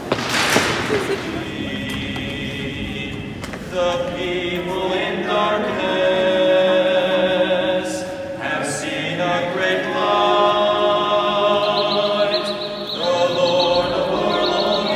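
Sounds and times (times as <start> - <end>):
choir singing a slow hymn: 0.4 - 14.9.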